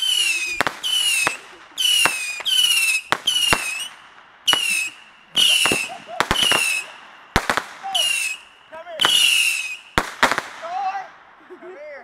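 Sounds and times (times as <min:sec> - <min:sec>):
whistling fireworks: 0:00.0 - 0:10.9
firework cracks: 0:00.0 - 0:11.4.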